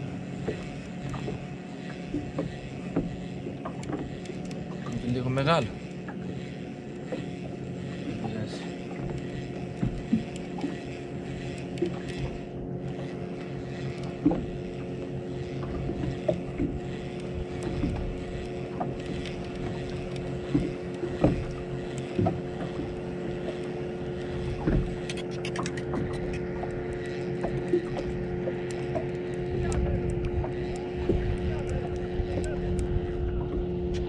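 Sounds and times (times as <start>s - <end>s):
boat motor humming: 0.0s - 34.0s
knocks and clicks from gear: 0.2s - 34.0s
light ticks: 0.3s - 34.0s.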